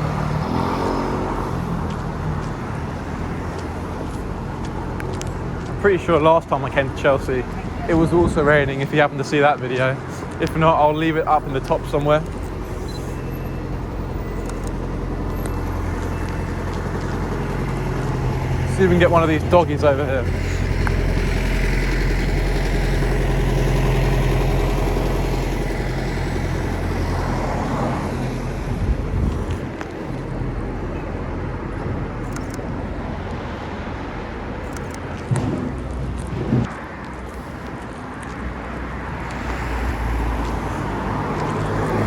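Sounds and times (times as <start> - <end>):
car engines passing: 0.0 - 42.0.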